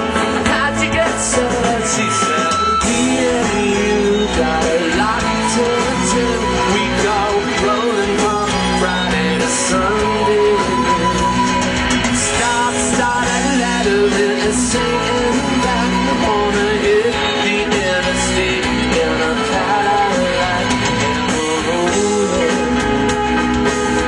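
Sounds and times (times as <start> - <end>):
live rock band playing: 0.0 - 24.0
man singing lead vocal: 0.0 - 24.0.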